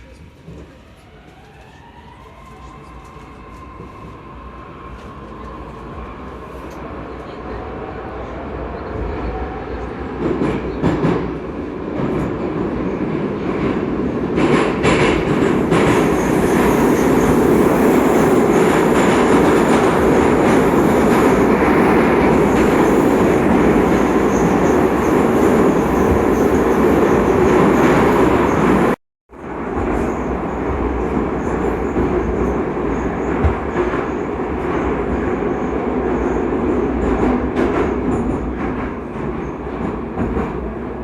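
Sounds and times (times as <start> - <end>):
rumble of train wheels on rail: 0.0 - 41.0.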